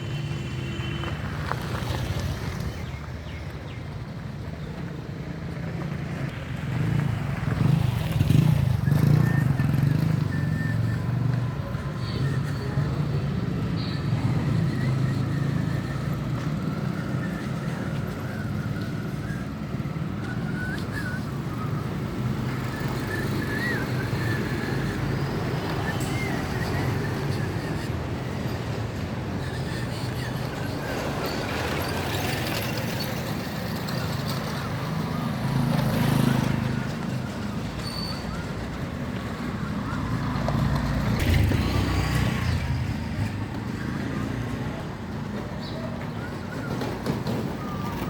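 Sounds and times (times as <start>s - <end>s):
traffic noise: 0.0s - 48.0s.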